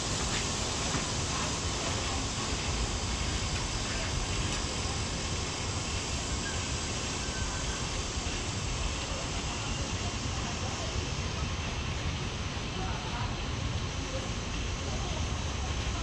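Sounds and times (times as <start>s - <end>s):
electric train hiss and hum: 0.0s - 16.0s
faint voices: 0.0s - 16.0s.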